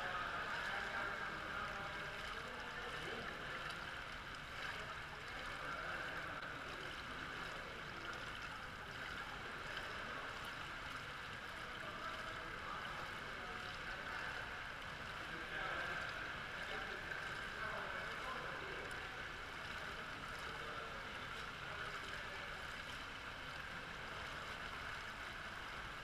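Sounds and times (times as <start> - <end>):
pool water lapping and splashing: 0.0 - 26.0.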